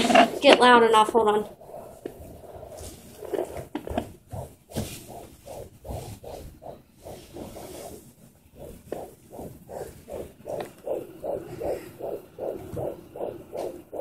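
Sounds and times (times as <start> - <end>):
fetal heartbeat whooshing pulses: 0.0 - 14.0.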